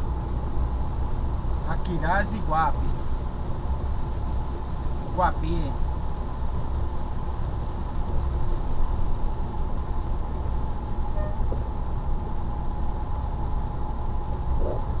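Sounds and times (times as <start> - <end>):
engine and road rumble: 0.0 - 15.0
light rain: 0.0 - 15.0.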